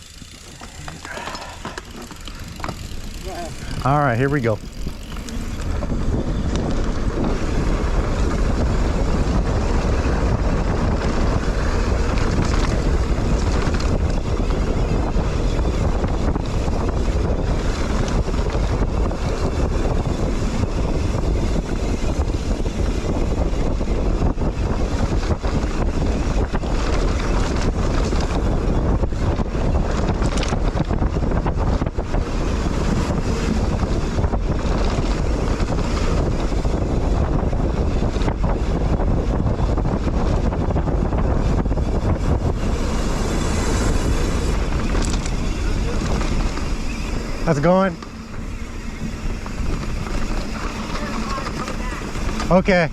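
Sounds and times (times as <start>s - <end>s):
bike rattles: 0.0s - 52.9s
wind buffeting microphone: 0.0s - 52.9s.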